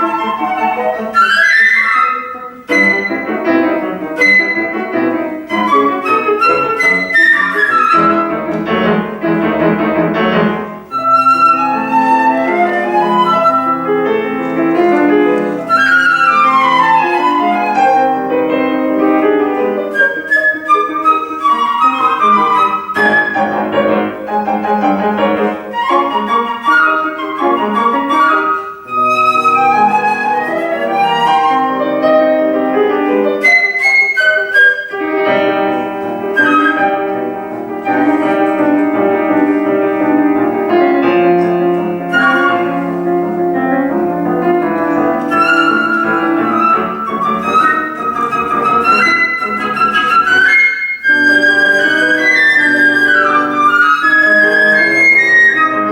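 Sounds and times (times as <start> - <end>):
concert flute playing: 0.0 - 55.9
piano accompaniment: 0.0 - 55.9.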